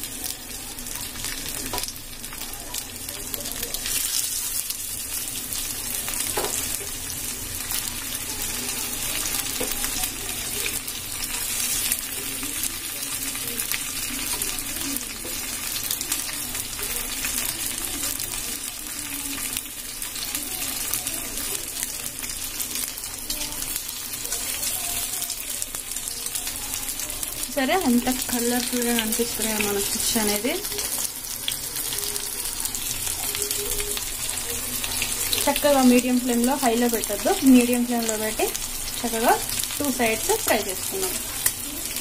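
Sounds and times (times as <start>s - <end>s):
fish sizzling in oil: 0.0s - 42.0s.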